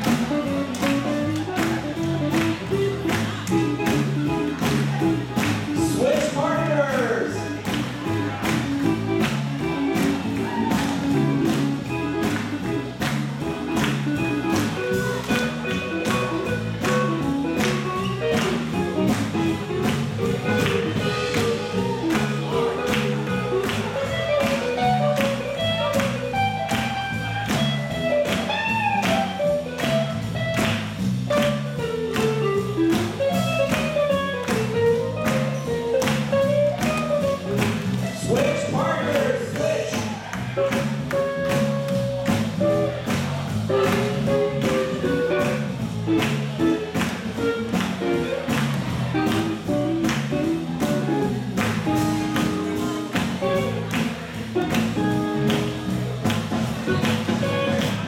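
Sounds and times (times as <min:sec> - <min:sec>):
live swing band playing: 0:00.0 - 0:58.0.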